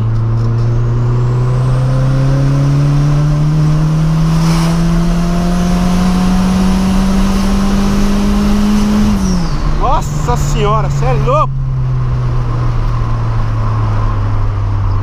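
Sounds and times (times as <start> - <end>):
car engine revving up: 0.0 - 15.0.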